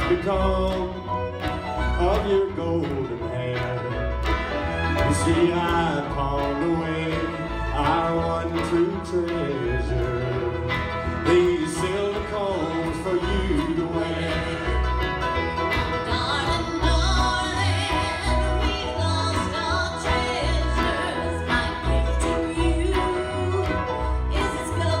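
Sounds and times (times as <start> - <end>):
live band playing swing: 0.0 - 25.0.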